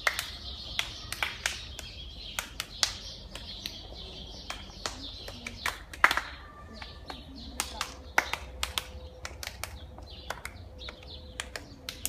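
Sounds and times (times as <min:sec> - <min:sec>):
children clapping: 0:00.0 - 0:12.0.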